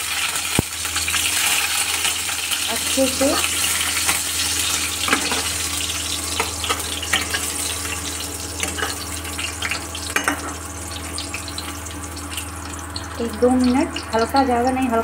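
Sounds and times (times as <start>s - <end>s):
potatoes sizzling in oil: 0.0s - 15.0s
low steady hum: 0.1s - 15.0s.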